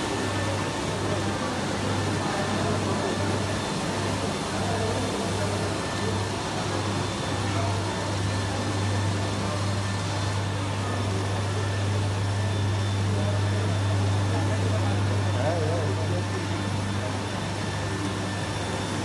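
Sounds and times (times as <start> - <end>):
industrial machinery humming: 0.0 - 19.0.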